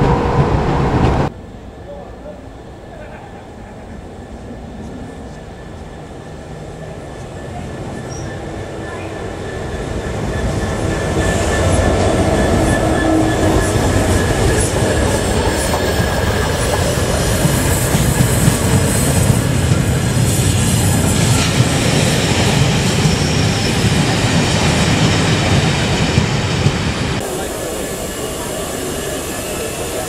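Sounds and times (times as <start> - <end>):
diesel locomotive running: 0.0 - 30.0
train wheels rumbling on rails: 2.5 - 30.0.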